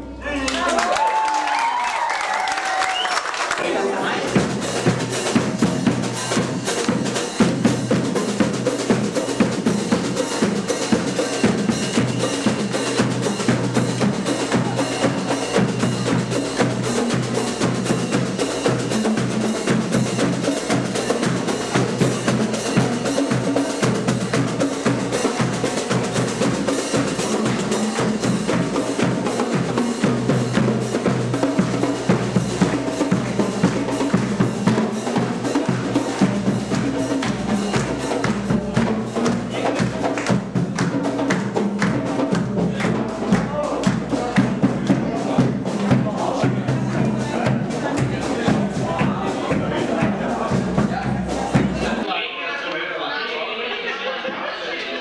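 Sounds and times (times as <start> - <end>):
shawm band playing: 0.0 - 55.0
snare and bass drums: 4.3 - 52.1.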